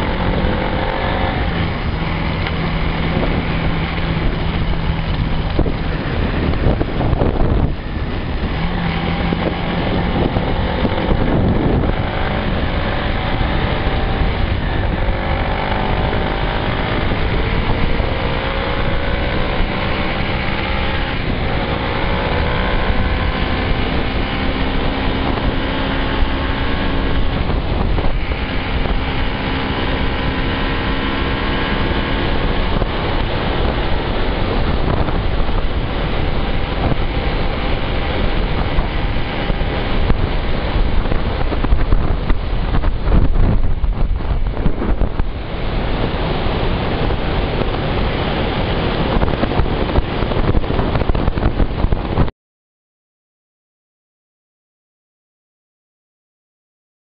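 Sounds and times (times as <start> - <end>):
motorcycle engine running: 0.0 - 52.3
wind rush on microphone: 0.0 - 52.3.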